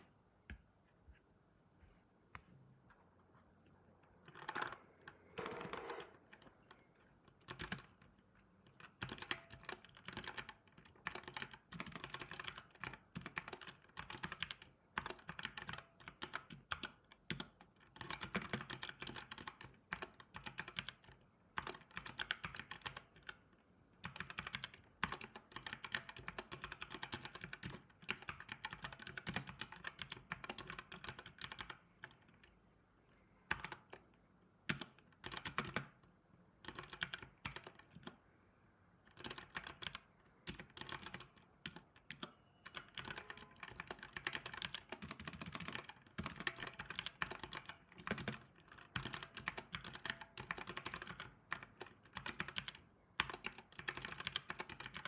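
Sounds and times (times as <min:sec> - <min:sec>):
computer keyboard typing: 0:04.1 - 0:23.4, 0:24.0 - 0:32.6, 0:33.4 - 0:38.3, 0:39.1 - 0:55.0.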